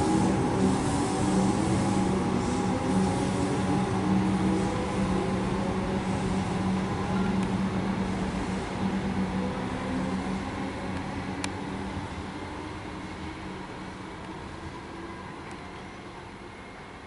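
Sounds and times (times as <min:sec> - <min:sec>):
electric train motors humming: 0:00.0 - 0:17.0.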